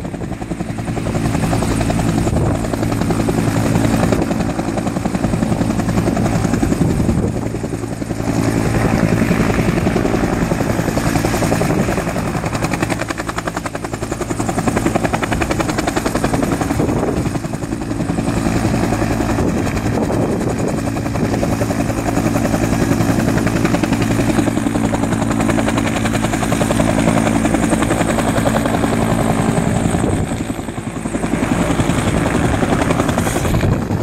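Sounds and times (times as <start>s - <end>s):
helicopter rotor chopping: 0.0s - 34.0s
turboshaft engine whine: 0.0s - 34.0s.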